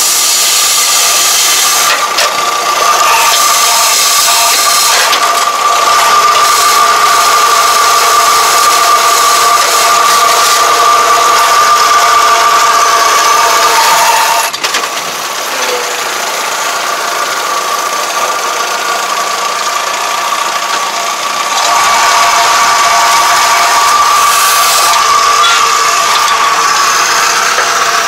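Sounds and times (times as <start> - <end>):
tractor and bale wrapper running: 0.0 - 28.0.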